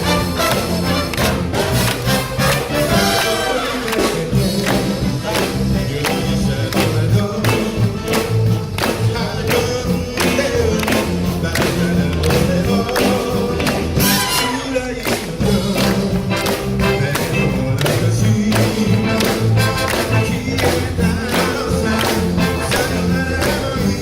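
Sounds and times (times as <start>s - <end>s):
big band brass and saxophones: 0.0s - 24.0s
drums keeping steady beat: 0.0s - 24.0s.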